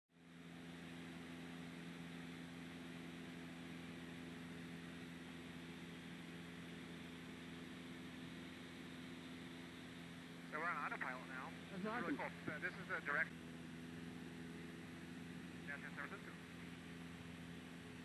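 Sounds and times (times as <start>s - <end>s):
small plane engine and propeller: 0.1s - 18.0s.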